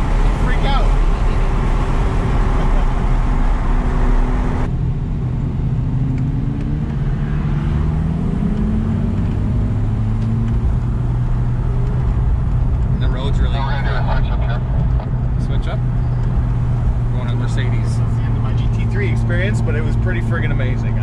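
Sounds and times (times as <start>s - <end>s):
car engine accelerating: 0.0s - 21.0s
road rumble: 0.0s - 21.0s.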